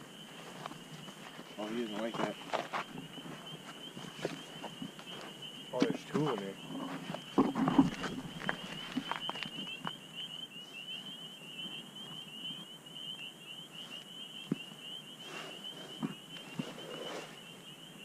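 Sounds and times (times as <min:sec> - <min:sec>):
night insects chirping: 0:00.0 - 0:18.0.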